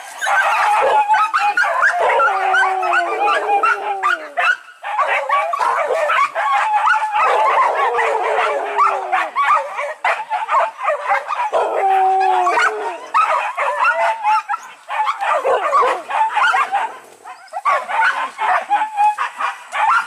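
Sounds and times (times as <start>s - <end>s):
dogs barking and baying: 0.0s - 20.0s
long drawn-out dog cries: 0.0s - 20.0s.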